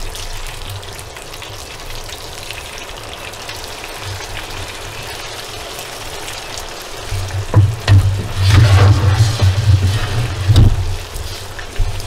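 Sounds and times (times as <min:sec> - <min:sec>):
potato patties frying in oil: 0:00.0 - 0:12.0.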